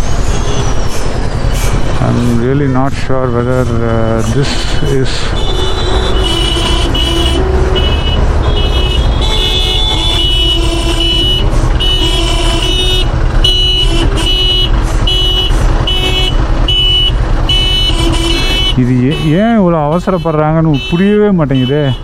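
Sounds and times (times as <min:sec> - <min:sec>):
low rumble of engines: 0:00.0 - 0:22.0
vehicle horns honking: 0:04.2 - 0:22.0.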